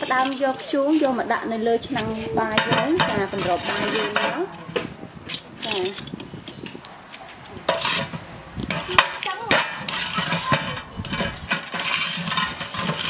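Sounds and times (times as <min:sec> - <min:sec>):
charcoal clinking on metal lid: 0:00.0 - 0:13.0.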